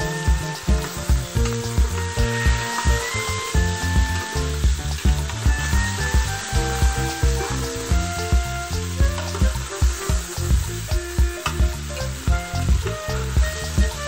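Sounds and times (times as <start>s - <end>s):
background music with bass beat: 0.0s - 14.0s
chicken sizzling in oil: 0.0s - 14.0s.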